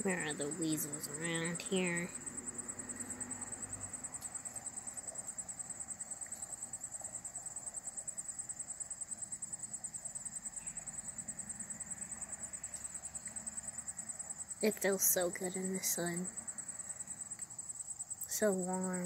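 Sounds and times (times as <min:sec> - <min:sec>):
insect trilling: 0:00.0 - 0:19.0.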